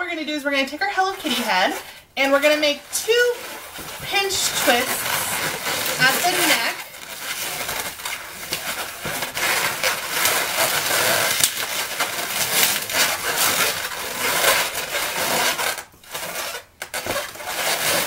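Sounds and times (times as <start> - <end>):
balloons squeaking as twisted: 0.6 - 18.0.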